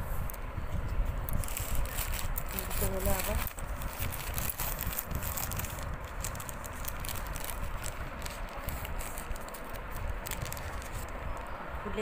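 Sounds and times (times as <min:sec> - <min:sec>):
plastic bag crinkling: 0:01.3 - 0:11.5.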